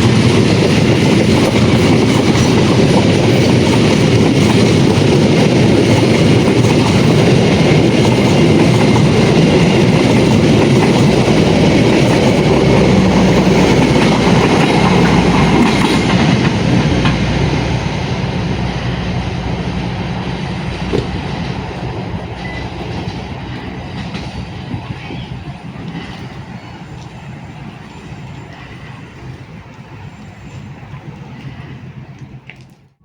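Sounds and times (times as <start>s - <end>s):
train wheels clicking on rails: 0.0s - 33.0s.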